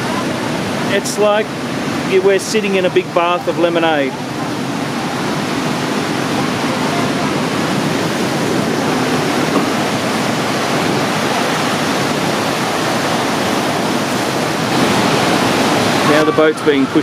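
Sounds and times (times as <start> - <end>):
loud rush of waterfall: 0.0 - 17.0.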